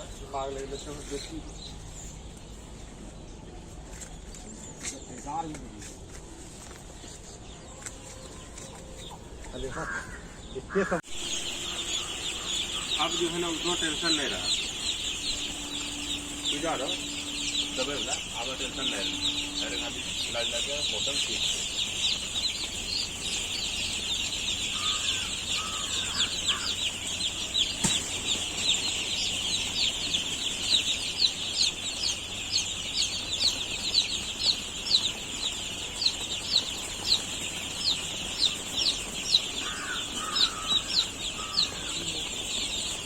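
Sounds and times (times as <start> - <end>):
chickens clucking: 0.0 - 43.0
chicks peeping: 0.0 - 43.0.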